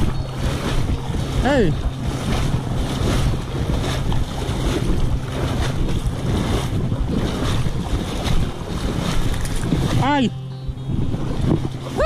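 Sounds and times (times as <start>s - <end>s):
seawater splashing and sloshing: 0.0s - 12.0s
wind buffeting microphone: 0.0s - 12.0s.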